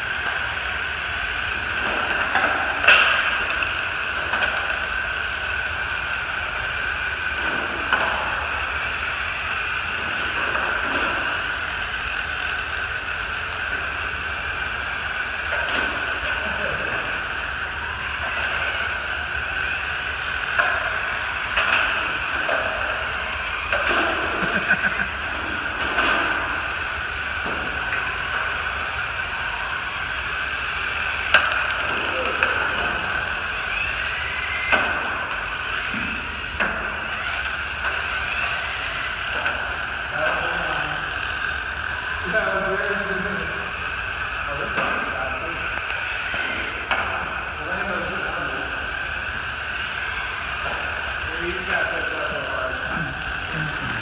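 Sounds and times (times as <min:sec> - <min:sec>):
toy cars whirring on hard floor: 0:00.0 - 0:54.0.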